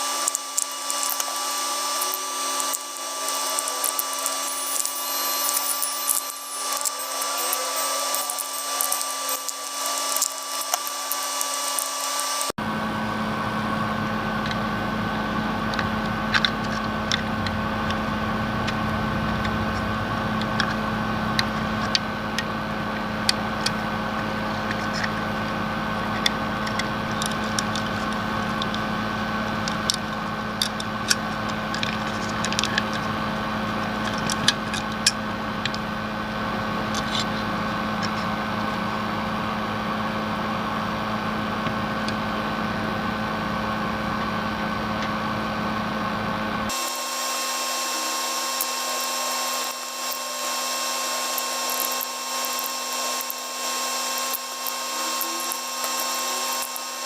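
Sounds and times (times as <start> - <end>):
small power tool humming: 0.0 - 57.0.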